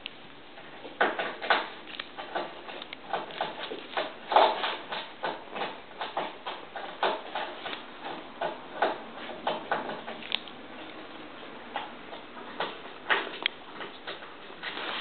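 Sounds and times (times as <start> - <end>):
animals crunching corn: 0.0 - 15.0.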